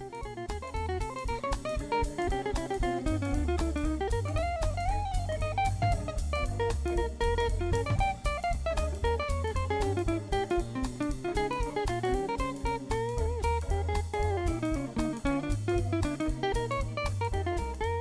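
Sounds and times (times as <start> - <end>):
background music with drum beat: 0.0 - 18.0.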